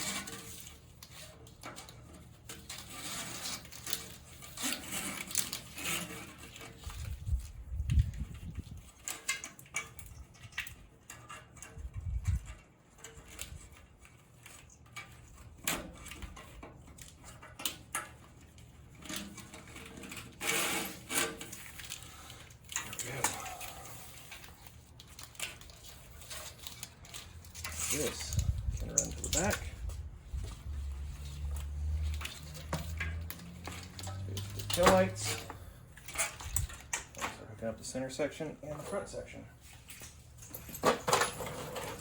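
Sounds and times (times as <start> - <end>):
wires rubbing and clicking on frame: 0.0 - 42.0.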